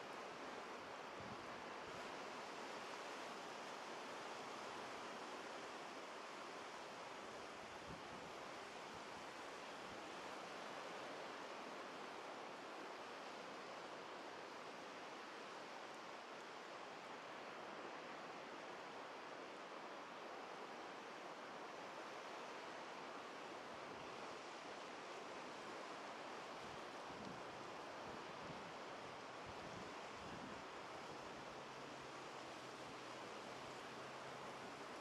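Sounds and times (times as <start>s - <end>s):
ocean surf washing on beach: 0.0s - 35.0s.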